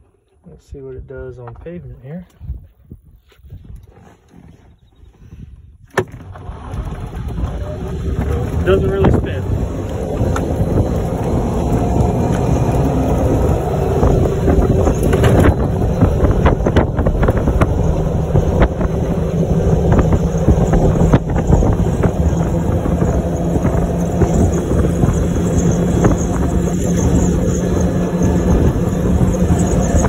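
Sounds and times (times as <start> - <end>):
wind buffeting microphone: 0.6 - 30.0
tyres rumbling on road: 5.9 - 30.0.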